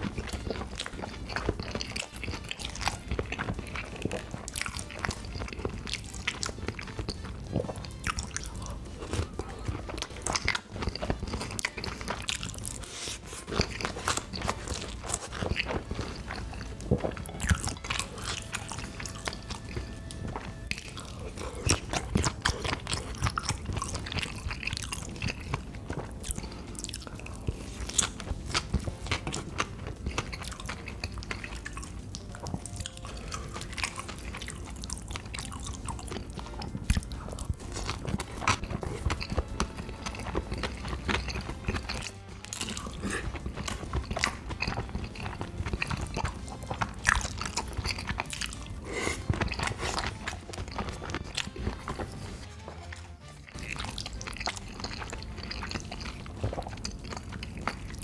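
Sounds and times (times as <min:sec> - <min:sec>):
biting and chewing food: 0:00.0 - 0:58.0.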